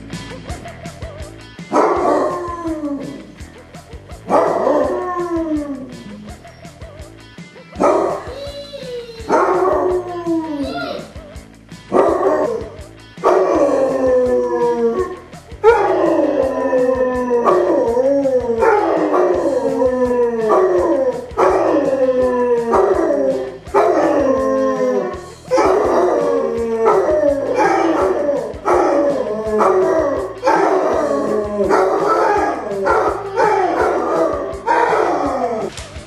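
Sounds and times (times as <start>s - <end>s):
dogs howling: 1.7s - 3.4s, 4.2s - 6.4s, 9.2s - 11.0s, 11.9s - 35.7s.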